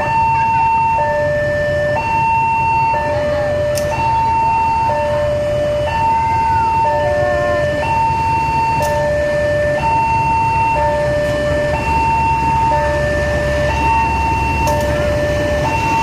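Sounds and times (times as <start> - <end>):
diesel train rumble: 0.0 - 16.0
two-tone electronic alarm: 0.0 - 16.0.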